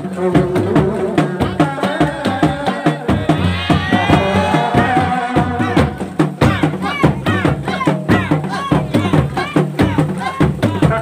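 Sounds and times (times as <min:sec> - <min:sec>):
hand drums beating: 0:00.0 - 0:11.0.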